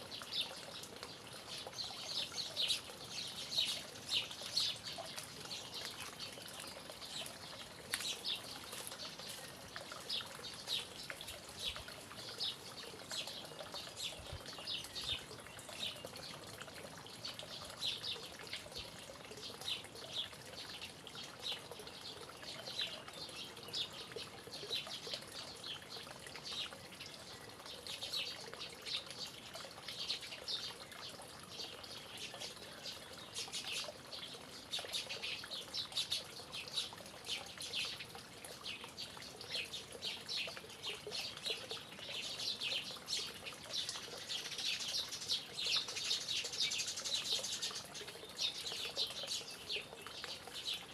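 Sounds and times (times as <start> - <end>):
running water trickling: 0.0 - 50.9
birds chirping: 0.2 - 29.3, 29.9 - 50.9.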